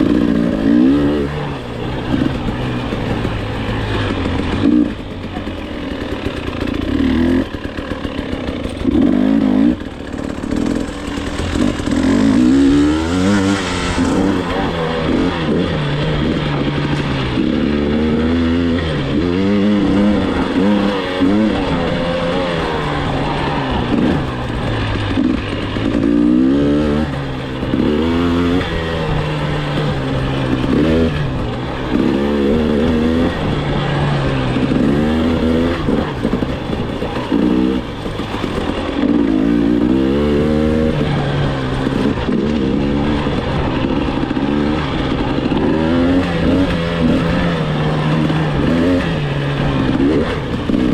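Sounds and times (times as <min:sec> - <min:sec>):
dirt bike engine revving: 0:00.0 - 0:50.9
wind and terrain noise: 0:00.0 - 0:50.9.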